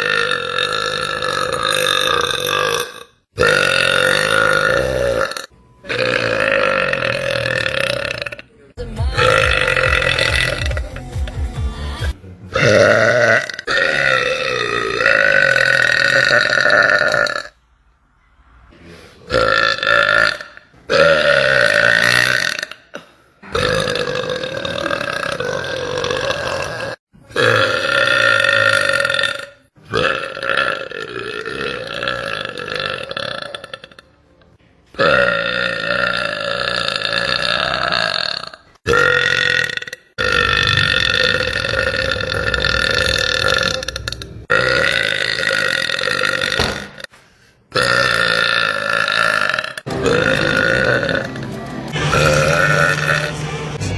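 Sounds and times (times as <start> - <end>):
woman burping: 0.0 - 8.5, 9.2 - 10.8, 12.5 - 17.5, 19.3 - 34.1, 35.0 - 47.1, 47.7 - 51.4.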